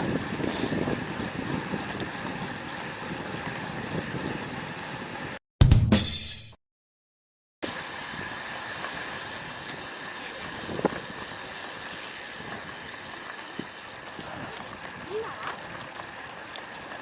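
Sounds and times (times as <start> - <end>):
wind and road noise: 0.0 - 5.4, 7.6 - 17.0.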